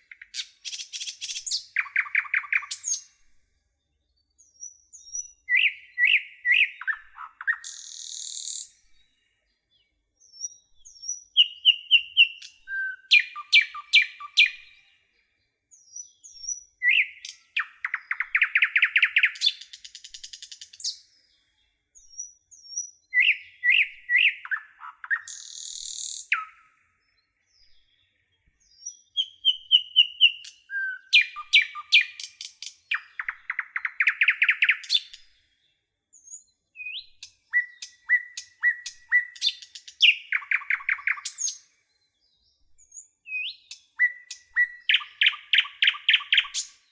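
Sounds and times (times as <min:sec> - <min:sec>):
nightingale singing: 0:00.0 - 0:46.9.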